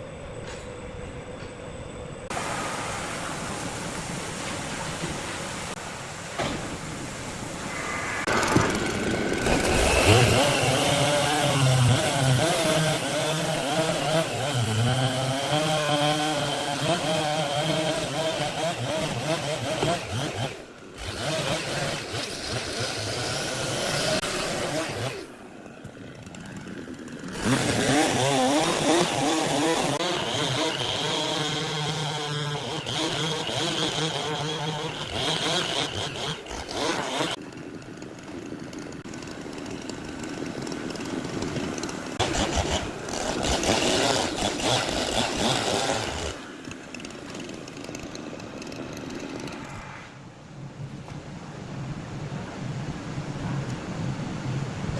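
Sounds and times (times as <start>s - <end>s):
sawmill saw cutting timber: 2.3s - 50.1s.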